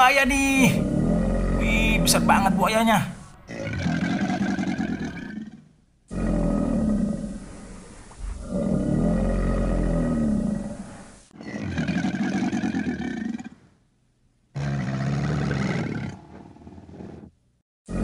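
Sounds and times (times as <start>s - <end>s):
deep animal roars: 0.3s - 13.7s, 14.6s - 17.3s.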